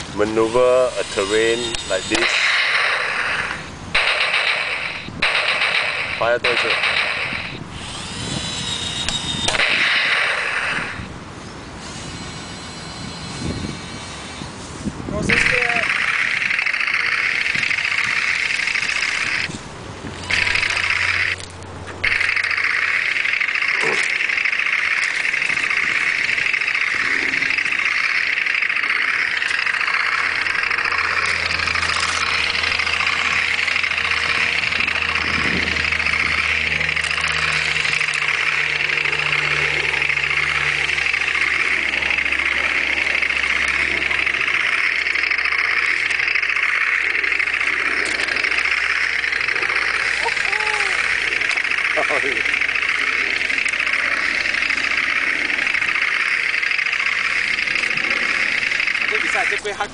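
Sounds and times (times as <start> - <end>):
toy tank high-pitched mechanical buzz: 0.0 - 59.9.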